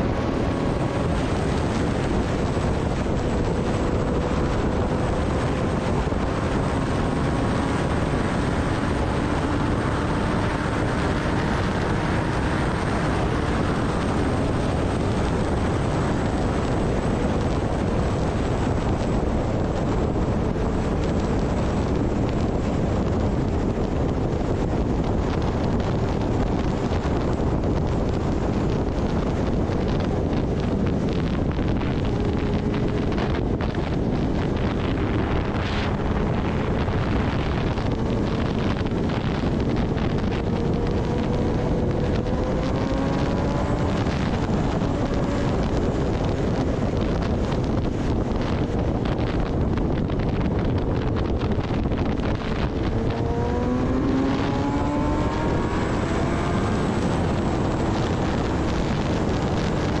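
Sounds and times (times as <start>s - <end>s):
motorcycle engine running: 0.0s - 60.0s
wind rush on microphone: 0.0s - 60.0s.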